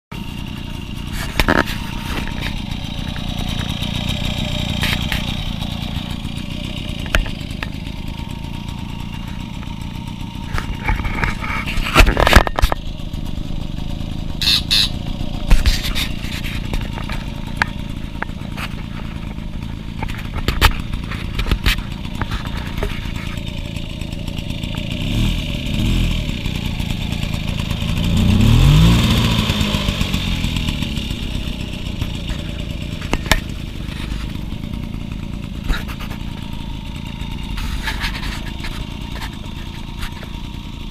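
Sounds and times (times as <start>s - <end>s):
moped engine running and revving: 0.1s - 40.9s.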